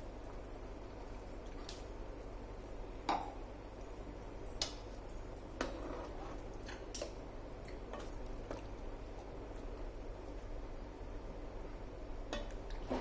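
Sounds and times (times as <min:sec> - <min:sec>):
curry simmering in a pot: 0:00.0 - 0:13.0.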